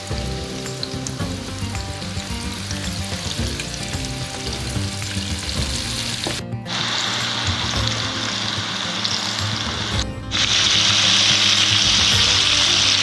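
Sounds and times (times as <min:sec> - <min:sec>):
onion rings sizzling in hot oil: 0:00.0 - 0:13.0.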